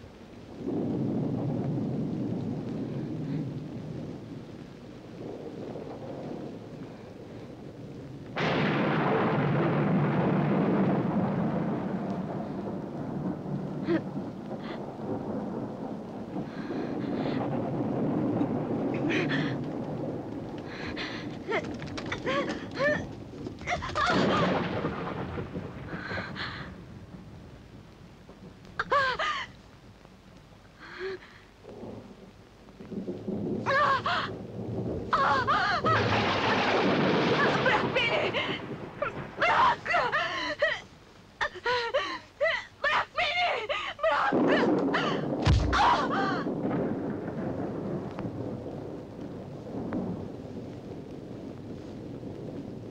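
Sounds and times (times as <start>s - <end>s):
rain hissing: 0.0s - 52.9s
rolling thunderclap: 0.0s - 52.9s.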